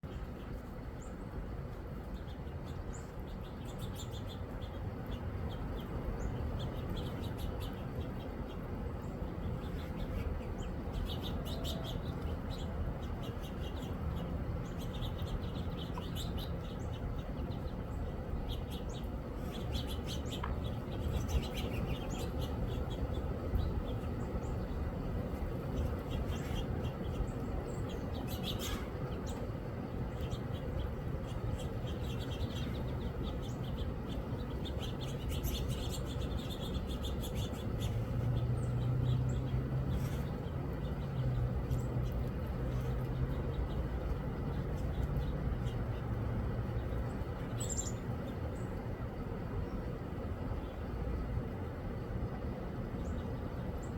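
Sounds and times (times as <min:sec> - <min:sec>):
birds chirping: 0:00.0 - 0:53.9
low background rumble: 0:00.0 - 0:53.9.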